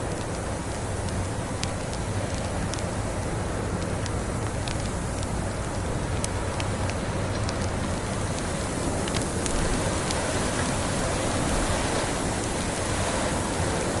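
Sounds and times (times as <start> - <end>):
fire popping: 0.0 - 14.0
rushing blizzard wind: 0.0 - 14.0
wood fire crackling: 0.0 - 14.0.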